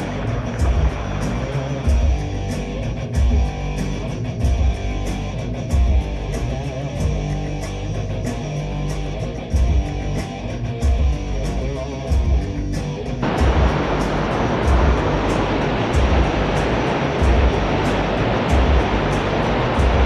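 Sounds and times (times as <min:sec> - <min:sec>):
electric guitar over a beat: 0:00.0 - 0:20.0.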